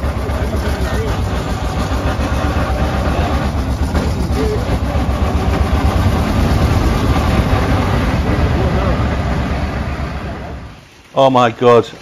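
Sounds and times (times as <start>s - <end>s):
car engine chugging: 0.0s - 11.0s.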